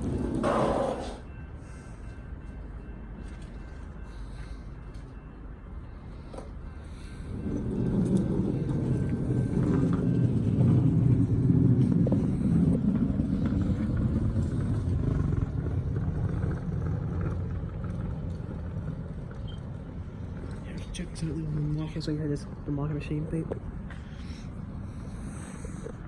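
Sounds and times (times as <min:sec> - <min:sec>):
diesel train rumbling past: 0:00.0 - 0:26.0.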